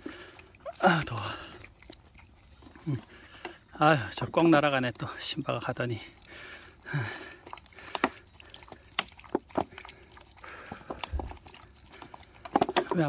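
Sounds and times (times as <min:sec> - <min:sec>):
dog lapping water: 0:00.0 - 0:13.0.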